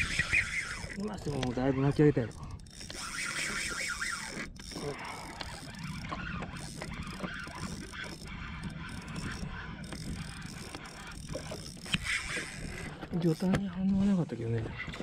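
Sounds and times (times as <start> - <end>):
fishing reel cranking: 0.0 - 14.1.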